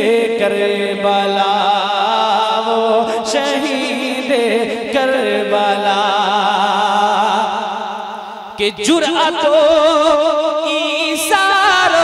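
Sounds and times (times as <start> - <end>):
man singing through pa system: 0.0 - 12.0.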